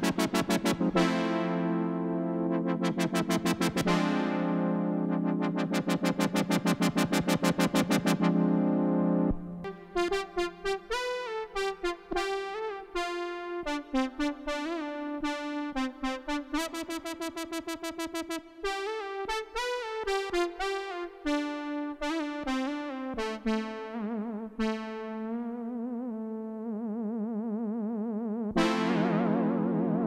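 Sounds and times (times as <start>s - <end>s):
synthesizer brass melody: 0.0s - 27.8s, 28.5s - 30.0s.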